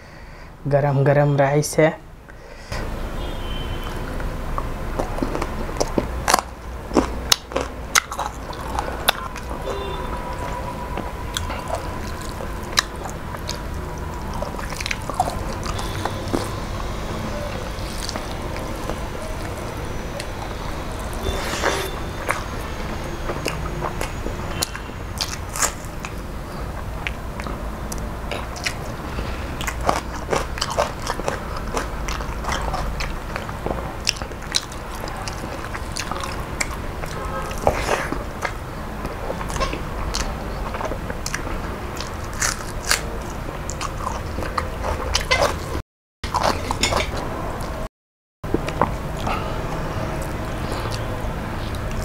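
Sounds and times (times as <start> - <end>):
food being chewed and crunched: 3.8 - 47.9, 48.5 - 52.0.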